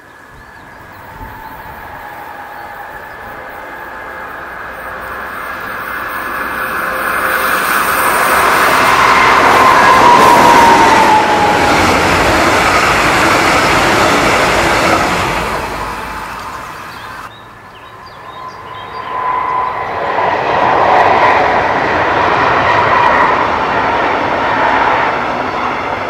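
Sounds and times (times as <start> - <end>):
diesel locomotive engine: 0.0 - 26.0
train wheels rushing by: 0.0 - 26.0.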